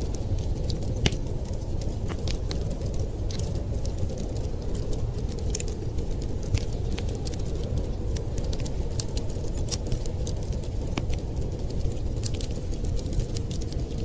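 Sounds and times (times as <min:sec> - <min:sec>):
fire crackling and popping: 0:00.0 - 0:14.0
low rumble of wind: 0:00.0 - 0:14.0.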